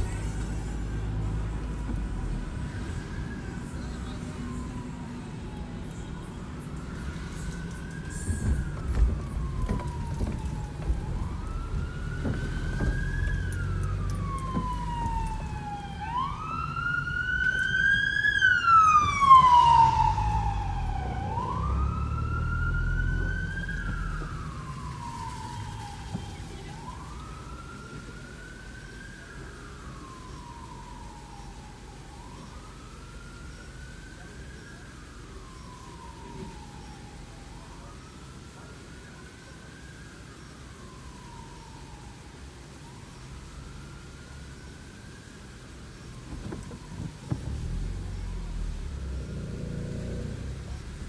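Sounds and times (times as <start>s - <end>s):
emergency siren wailing: 0.0s - 51.0s
traffic rumble: 0.0s - 51.0s.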